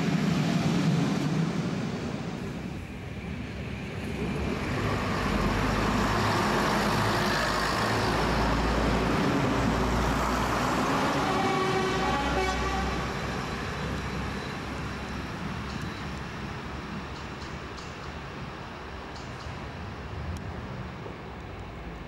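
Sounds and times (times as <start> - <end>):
diesel train passing: 0.0 - 22.0.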